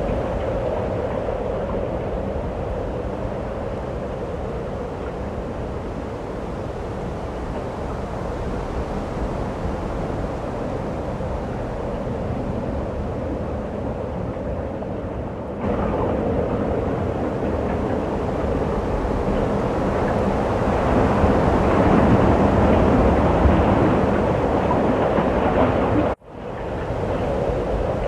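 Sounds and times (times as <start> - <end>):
snowstorm wind blowing: 0.0 - 28.0.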